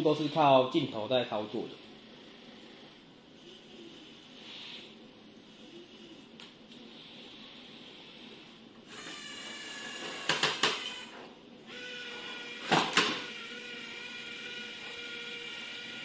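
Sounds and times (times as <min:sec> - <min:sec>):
robot electric motors whining: 0:00.0 - 0:16.0.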